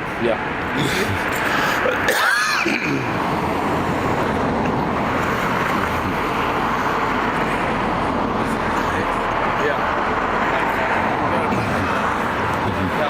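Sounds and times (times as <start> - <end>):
motor vehicle traffic: 0.0 - 13.0.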